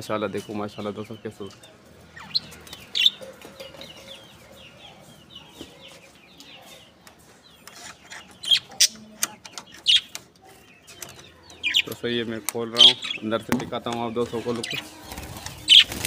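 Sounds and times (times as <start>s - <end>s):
budgerigars chattering: 0.0s - 16.0s
loud sharp bird calls: 0.0s - 16.0s.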